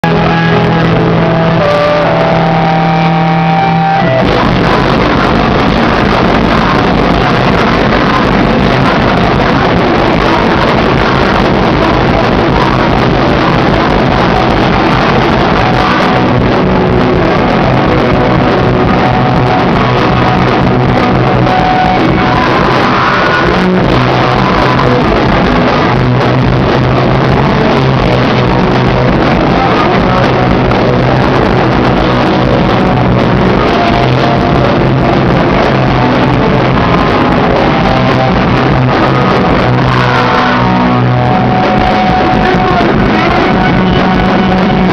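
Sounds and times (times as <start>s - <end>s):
live rock band playing: 0.0s - 44.9s
sustained guitar notes: 0.0s - 44.9s.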